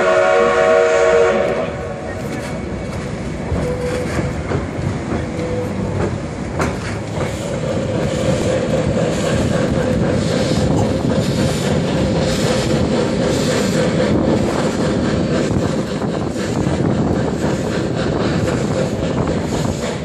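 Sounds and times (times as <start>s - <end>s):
train rumbling on track: 0.0s - 20.0s
wheels clicking over rail joints: 2.1s - 20.0s.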